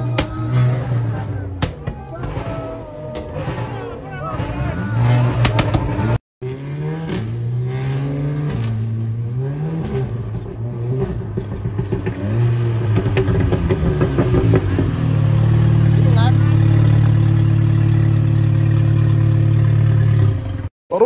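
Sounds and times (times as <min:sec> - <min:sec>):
car engine revving and idling: 0:00.0 - 0:20.7.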